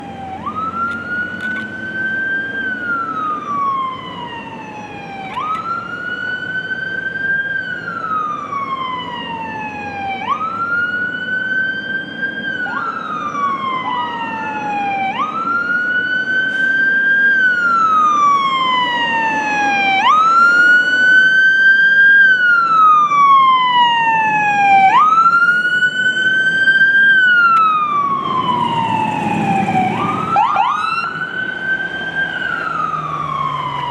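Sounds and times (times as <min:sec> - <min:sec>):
heavy truck engine rumble: 0:00.0 - 0:11.2, 0:11.8 - 0:33.9
fire engine siren wailing: 0:00.0 - 0:33.9.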